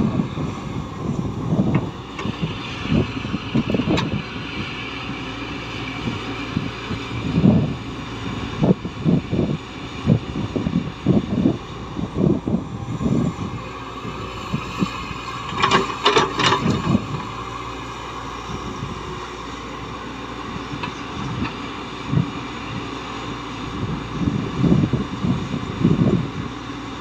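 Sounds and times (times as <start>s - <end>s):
wind on microphone: 0.0s - 17.7s, 18.4s - 26.7s
heavy machinery rumbling: 0.0s - 27.0s.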